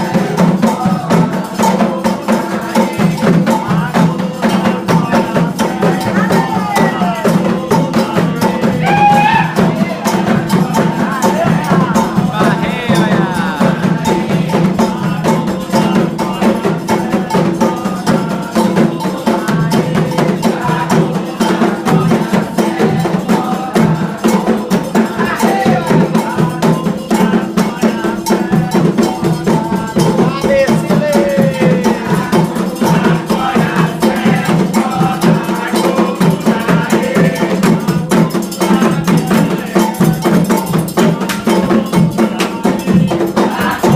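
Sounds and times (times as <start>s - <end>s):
hand drums playing: 0.0s - 43.9s
iron bell rhythm: 0.0s - 43.9s
voices singing: 0.0s - 43.9s.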